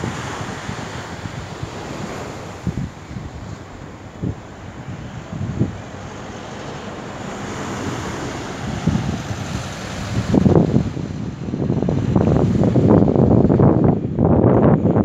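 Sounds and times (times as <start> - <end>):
gentle surf: 0.0 - 15.0
rush of wind: 0.0 - 15.0
wind buffeting microphone: 0.0 - 15.0.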